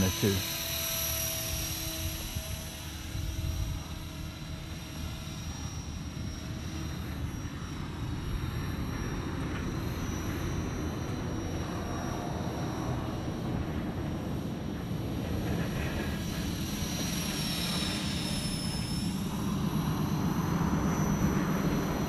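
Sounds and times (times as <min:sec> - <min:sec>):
rc helicopter high-pitched whine: 0:00.0 - 0:22.0.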